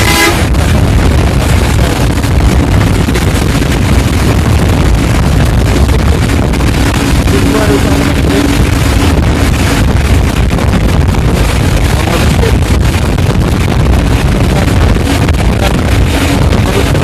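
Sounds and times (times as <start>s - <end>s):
vehicle rumble at speed: 0.0s - 17.0s
wind buffeting microphone: 0.0s - 17.0s.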